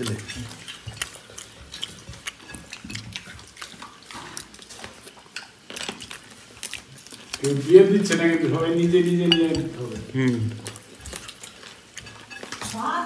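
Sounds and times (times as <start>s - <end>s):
small clicks on plates: 0.0s - 8.6s, 9.2s - 13.0s
wet squishing of rice by fingers: 0.0s - 13.0s.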